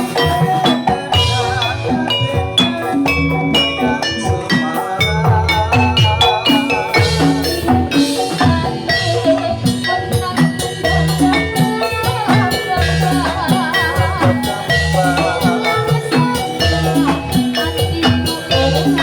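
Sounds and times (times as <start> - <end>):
steady drum pattern: 0.0 - 19.0
struck metallophone notes: 0.0 - 19.0.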